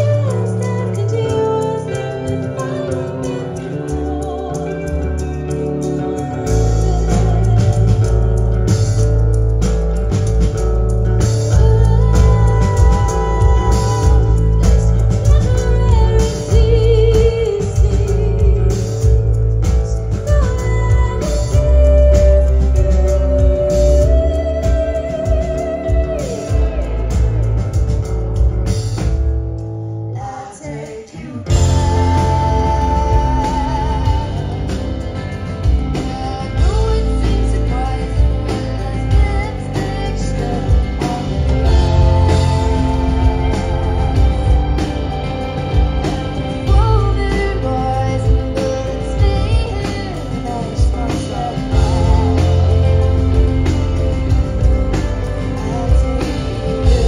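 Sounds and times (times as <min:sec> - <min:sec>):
woman singing: 0:00.0 - 0:08.9, 0:11.2 - 0:27.5, 0:30.1 - 0:57.0
live rock band playing: 0:00.0 - 0:57.0.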